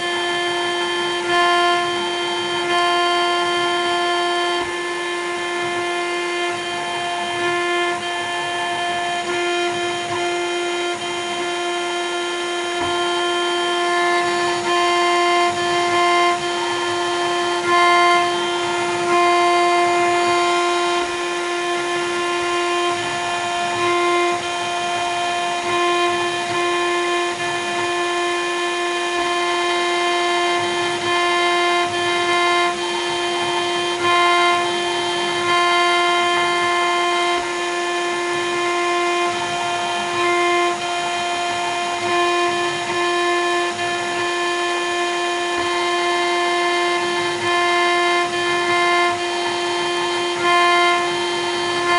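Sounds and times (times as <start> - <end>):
router spindle whining: 0.0 - 51.9.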